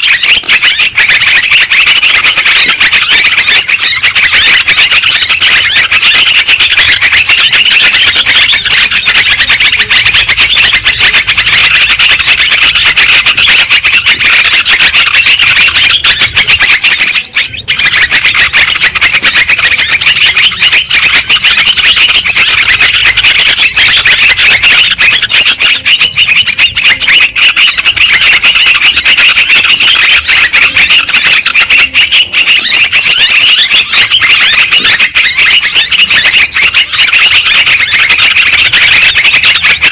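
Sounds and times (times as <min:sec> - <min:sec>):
dense chatter of many birds: 0:00.0 - 0:39.9.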